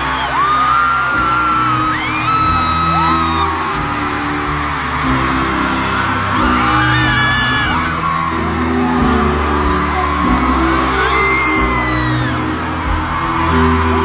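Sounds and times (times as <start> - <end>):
crowd screaming and whooping: 0.0 - 14.0
live concert music heavy bass: 0.0 - 14.0.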